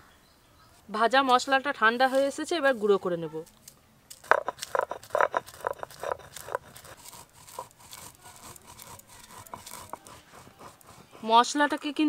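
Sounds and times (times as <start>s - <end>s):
spices ground by hand: 1.3s - 12.0s.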